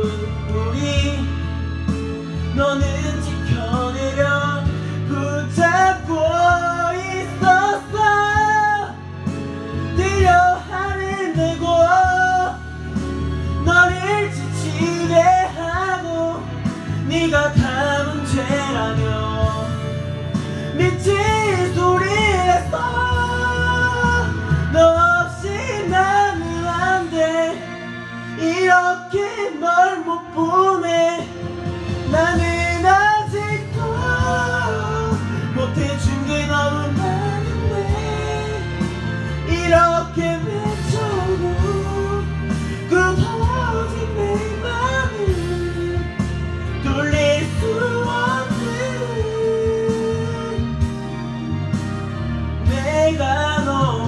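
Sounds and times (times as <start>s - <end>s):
man singing into microphone: 0.0s - 51.7s, 52.6s - 54.0s
karaoke backing track: 0.0s - 54.0s.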